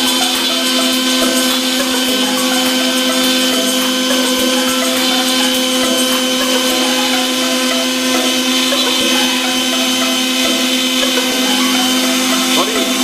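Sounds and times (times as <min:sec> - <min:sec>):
electric router motor whining: 0:00.0 - 0:13.0.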